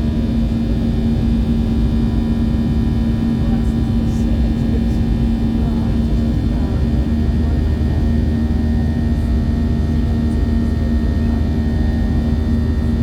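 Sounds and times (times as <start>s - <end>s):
airliner engines droning: 0.0s - 13.0s.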